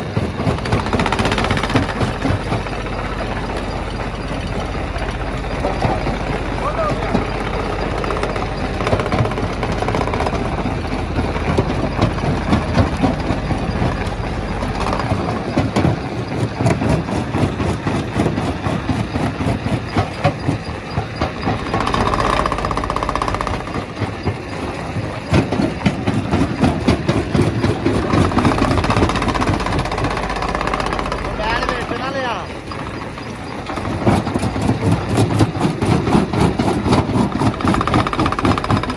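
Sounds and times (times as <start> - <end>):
steady machine whine: 0.0 - 38.9
stone crusher rumbling: 0.0 - 38.9.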